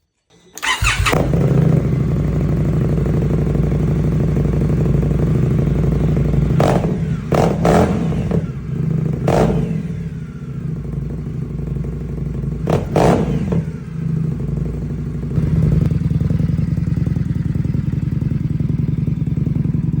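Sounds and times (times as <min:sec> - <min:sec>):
motorcycle engine idling and revving: 0:00.4 - 0:20.0.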